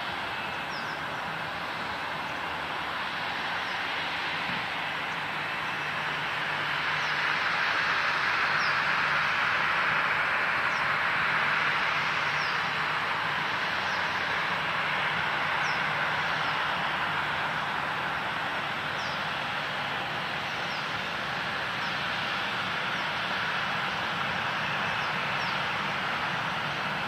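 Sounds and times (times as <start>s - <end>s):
jet engine rushing: 0.0s - 27.0s.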